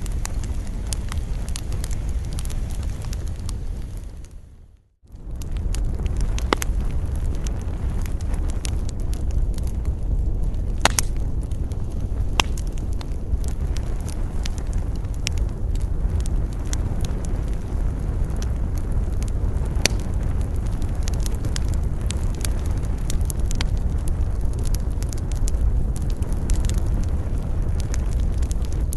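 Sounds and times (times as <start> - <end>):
campfire crackling and popping: 0.0 - 28.9
low rumble of wind: 0.0 - 28.9.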